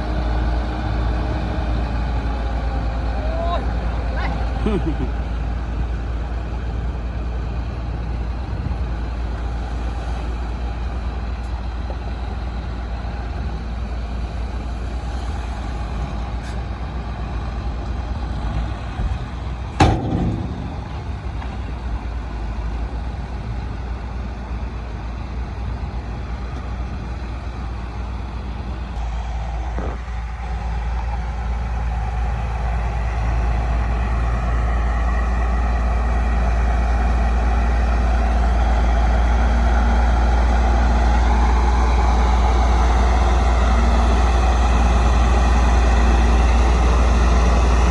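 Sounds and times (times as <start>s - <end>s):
heavy diesel machinery rumbling: 0.0s - 47.9s.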